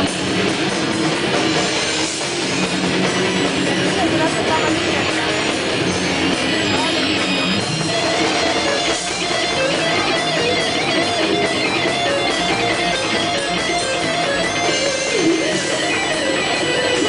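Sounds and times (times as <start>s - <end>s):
electric guitar solo: 0.0s - 17.0s
live rock band playing: 0.0s - 17.0s.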